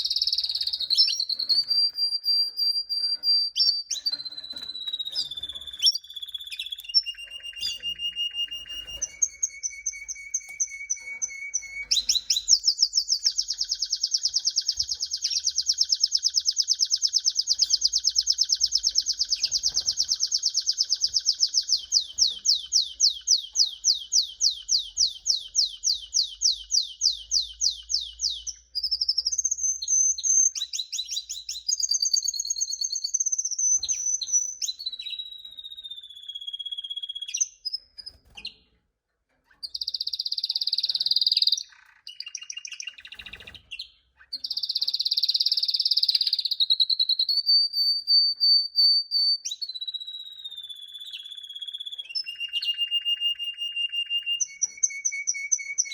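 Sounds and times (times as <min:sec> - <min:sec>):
canary singing: 0:00.0 - 0:38.7, 0:39.5 - 0:55.9.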